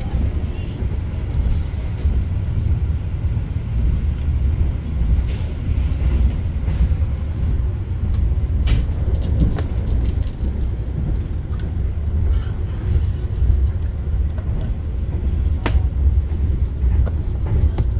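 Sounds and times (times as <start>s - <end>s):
train rumbling: 0.0s - 17.9s.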